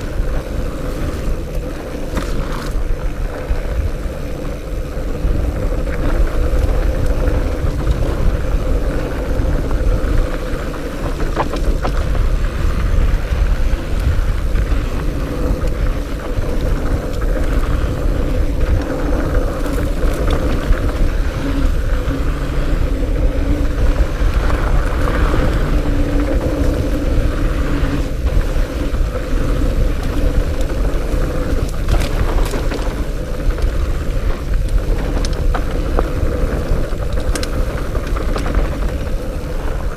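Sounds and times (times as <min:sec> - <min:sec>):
bike tire rumble: 0:00.0 - 0:39.9
wind rushing over microphone: 0:00.0 - 0:39.9.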